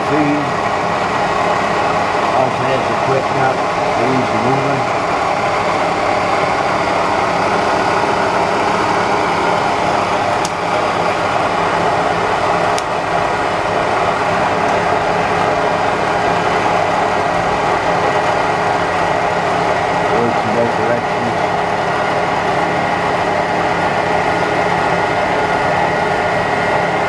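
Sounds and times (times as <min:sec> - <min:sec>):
milling machine running: 0:00.0 - 0:27.0.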